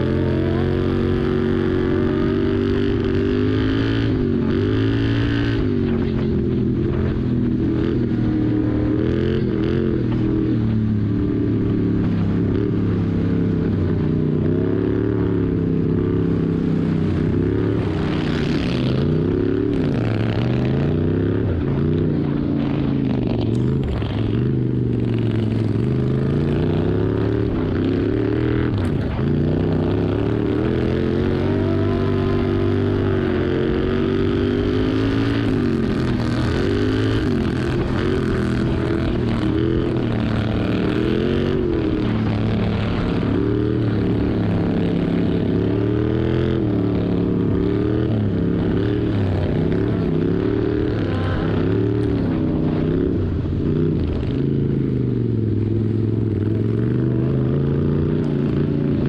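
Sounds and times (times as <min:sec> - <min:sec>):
lawn mower engine revving: 0:00.0 - 0:07.4, 0:14.0 - 0:59.0.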